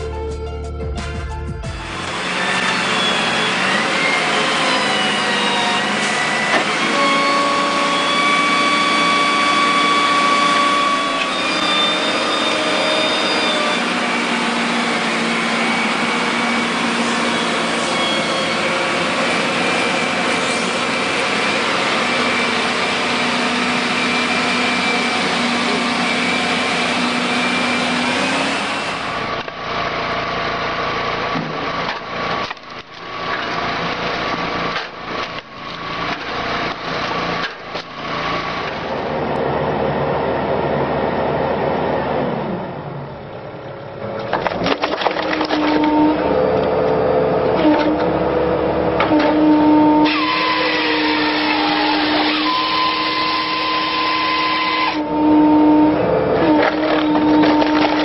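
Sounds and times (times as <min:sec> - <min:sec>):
wood-cutting machinery running: 0:00.0 - 0:58.0.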